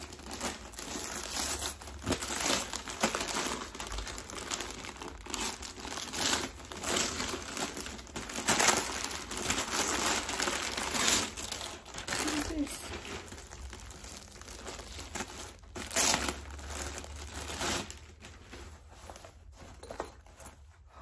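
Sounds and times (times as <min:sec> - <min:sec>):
gift wrapping crinkling: 0:00.0 - 0:20.9.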